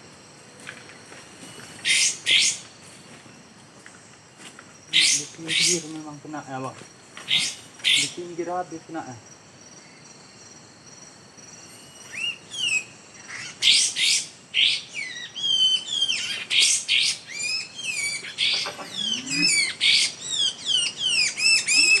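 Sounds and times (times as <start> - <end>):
high insect drone: 0.0 - 22.0
songbirds chirping: 0.0 - 22.0.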